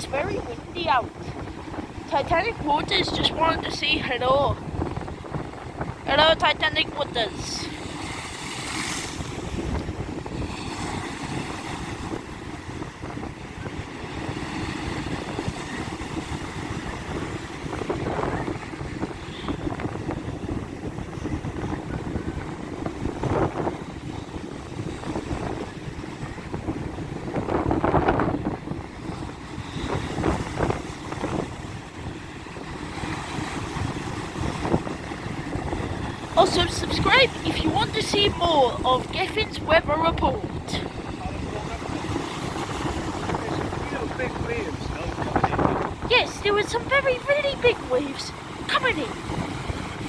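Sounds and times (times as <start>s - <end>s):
storm waves breaking on shore: 0.0s - 50.0s
wind buffeting microphone: 0.0s - 50.0s.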